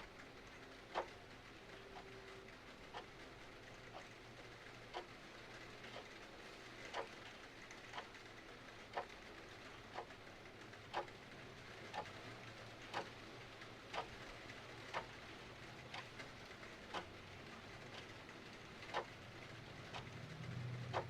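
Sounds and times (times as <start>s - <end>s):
clock ticking: 0.0s - 6.2s, 6.9s - 8.2s, 8.8s - 11.2s, 11.8s - 12.2s, 12.9s - 21.0s
faint hiss of rain: 0.0s - 21.0s.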